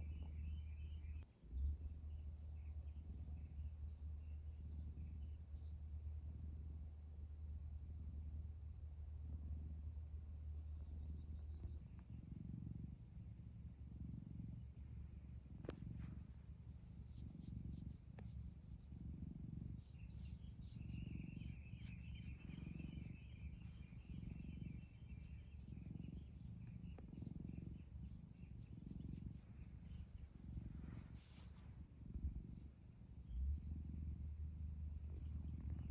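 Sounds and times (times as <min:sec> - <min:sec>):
cat purring: 0:00.0 - 0:35.9.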